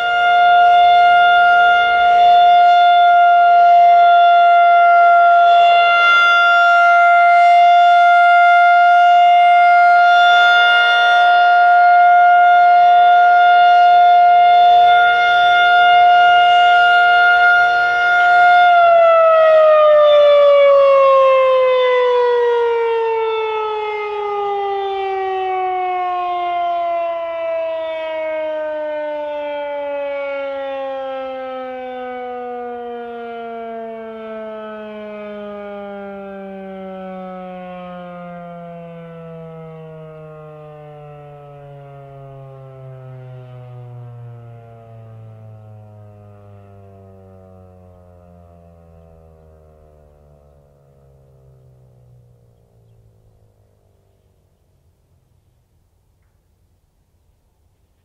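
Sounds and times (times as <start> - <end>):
rotating siren alert tone: 0.0 - 53.3
siren winding down: 0.0 - 54.1.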